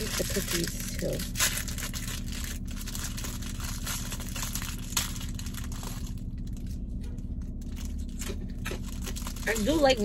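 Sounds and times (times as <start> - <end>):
plastic wrapper crinkling: 0.0 - 10.0
steady low hum: 0.0 - 10.0.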